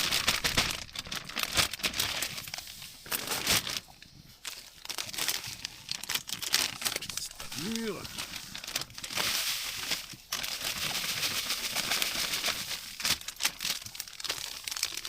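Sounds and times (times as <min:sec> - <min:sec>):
wrapping material crinkling: 0:00.0 - 0:15.0.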